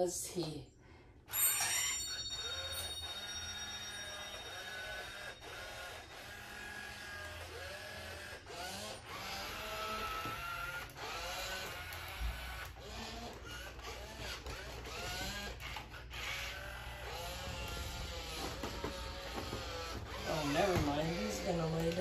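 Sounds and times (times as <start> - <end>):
toy robot motors whirring: 1.3 - 22.0.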